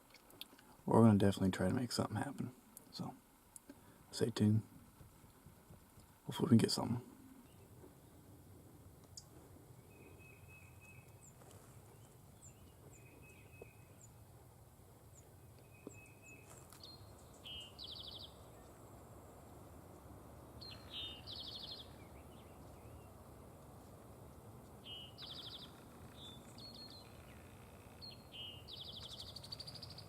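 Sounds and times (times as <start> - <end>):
faint songbirds chirping: 0.0 - 30.0.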